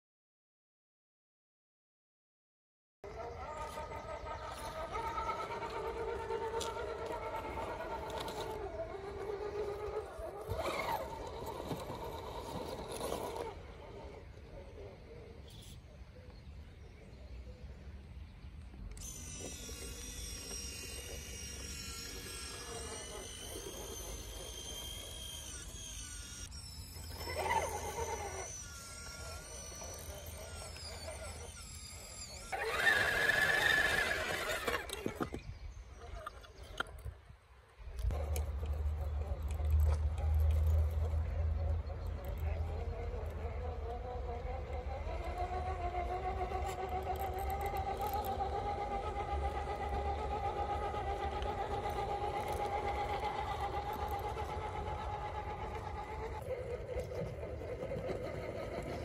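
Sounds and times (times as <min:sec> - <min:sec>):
rc car motor whining: 0:03.1 - 0:16.0, 0:18.5 - 0:59.0.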